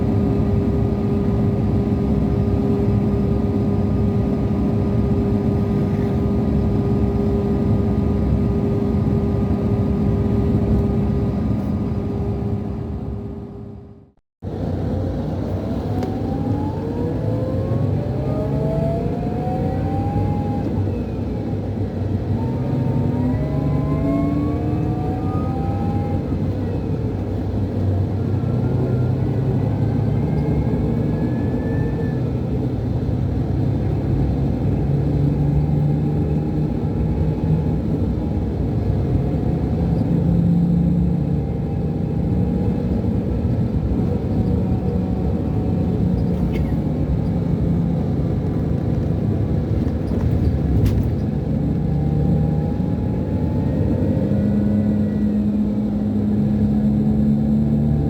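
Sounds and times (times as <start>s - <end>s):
bus engine whine rising: 0.0s - 58.0s
engine low hum: 0.0s - 58.0s.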